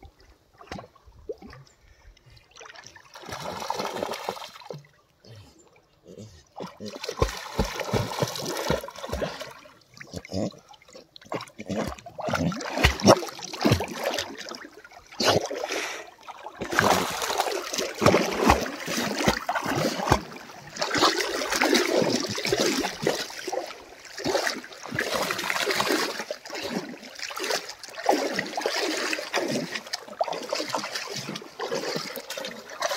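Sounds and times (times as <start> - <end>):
puppy splashing in river water: 2.5 - 5.0, 6.6 - 32.9.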